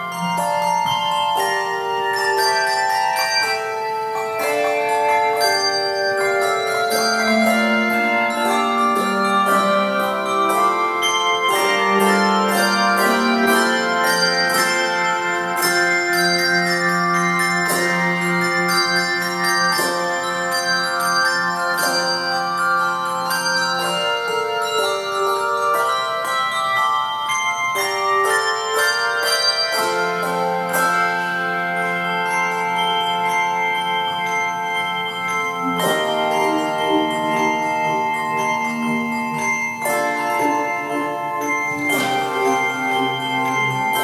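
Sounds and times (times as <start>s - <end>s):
bell-like instrumental music: 0.0s - 44.0s.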